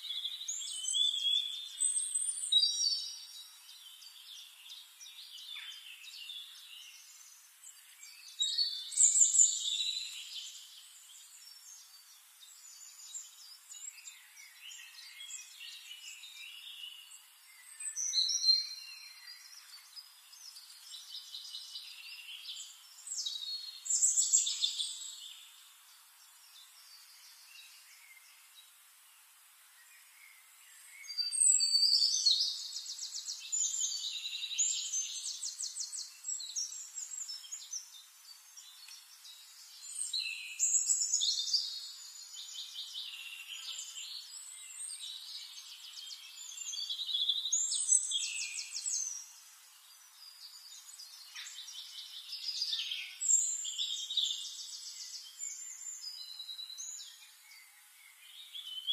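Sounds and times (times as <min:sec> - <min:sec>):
songbirds trilling: 0:00.0 - 0:58.9.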